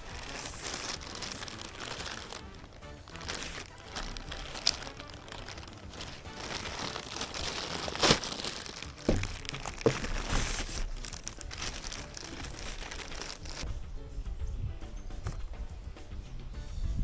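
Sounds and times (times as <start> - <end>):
packaging crinkling: 0.0 - 13.7.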